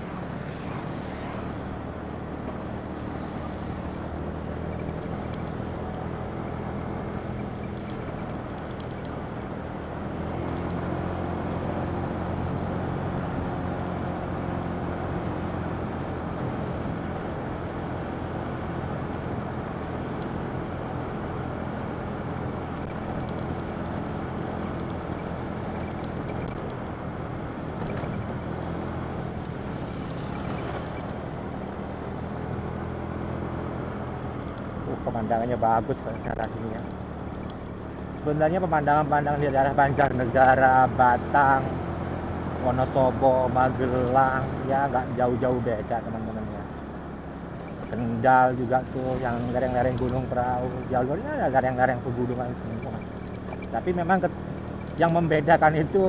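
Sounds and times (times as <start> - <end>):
road and air noise: 0.0 - 56.0
vehicle engine running: 0.0 - 56.0.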